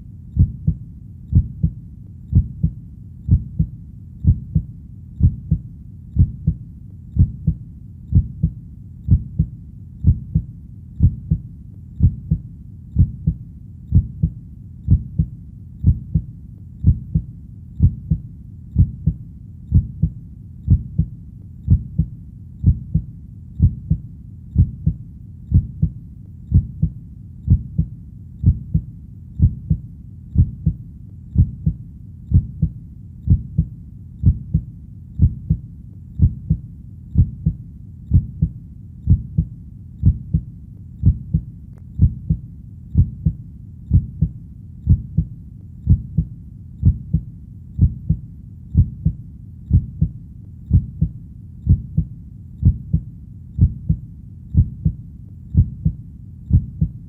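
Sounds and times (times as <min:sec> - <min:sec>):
faint low rumble: 0:00.0 - 0:57.0
heartbeat: 0:00.0 - 0:57.0.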